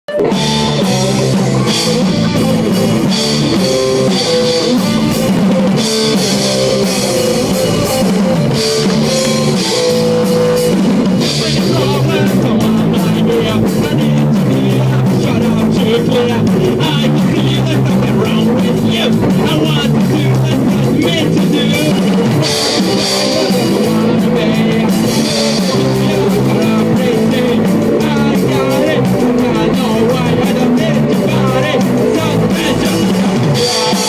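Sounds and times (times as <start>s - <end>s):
punk rock music: 0.1s - 34.0s.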